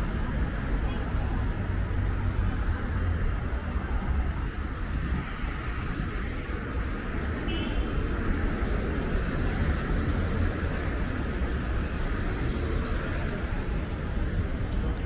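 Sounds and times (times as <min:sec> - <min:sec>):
rumble of passing traffic: 0:00.0 - 0:15.0.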